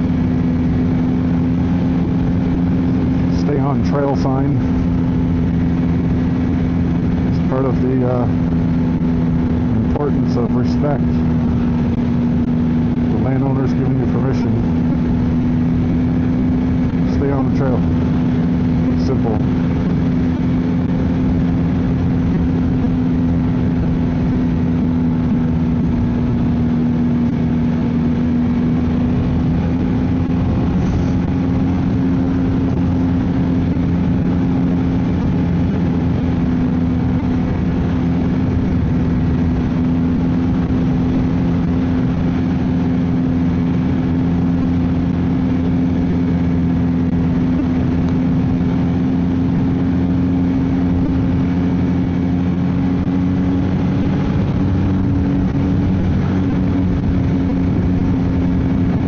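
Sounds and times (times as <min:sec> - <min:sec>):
snowmobile engine droning: 0:00.0 - 0:59.0.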